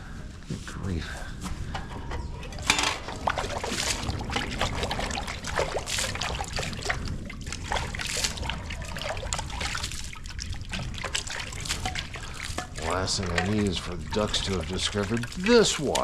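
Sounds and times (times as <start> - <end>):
water trickling and splashing: 0.8 - 16.0.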